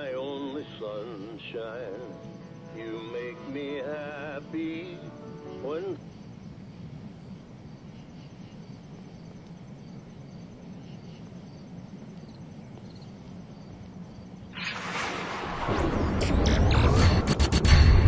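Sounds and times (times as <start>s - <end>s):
background hiss and hum: 0.0s - 18.0s.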